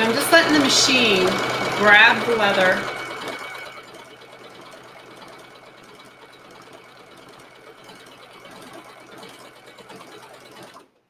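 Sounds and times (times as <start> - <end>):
sewing machine running: 0.0 - 11.0.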